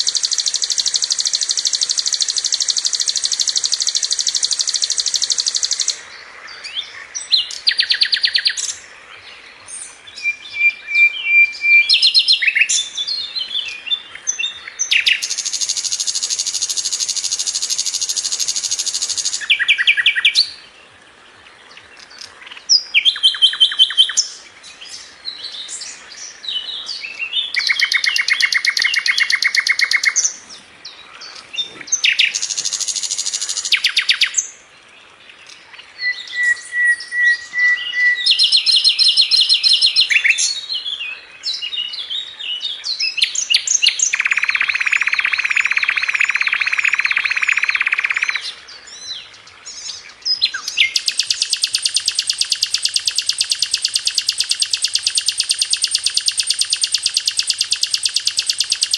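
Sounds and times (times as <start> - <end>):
flycatcher singing trills: 0.0 - 20.7, 22.0 - 34.6, 35.4 - 42.0, 42.8 - 58.9.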